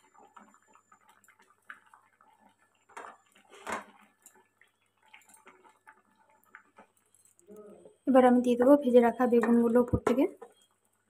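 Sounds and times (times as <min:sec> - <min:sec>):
curry bubbling and popping: 0:00.0 - 0:11.0.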